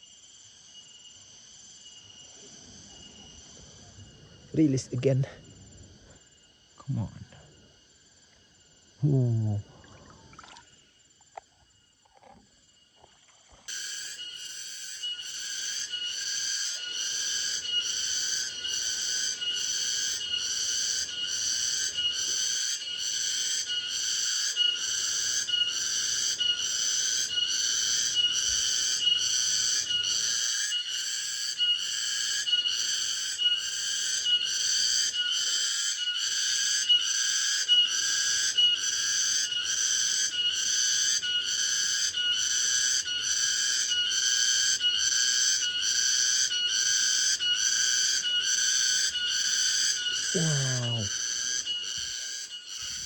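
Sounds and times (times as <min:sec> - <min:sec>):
cicada calling: 0:00.0 - 0:53.0.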